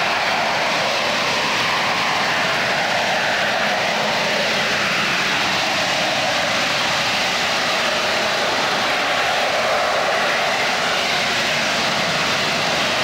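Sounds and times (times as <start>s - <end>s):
faint engine whine: 0.0s - 13.0s
jet engine roaring: 0.0s - 13.0s.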